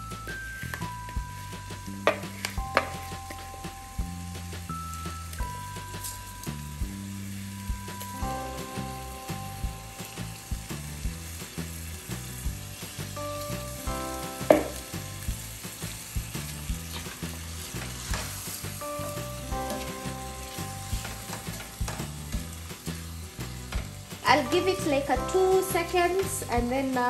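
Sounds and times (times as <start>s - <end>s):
rice sizzling in pot: 0.0s - 27.0s.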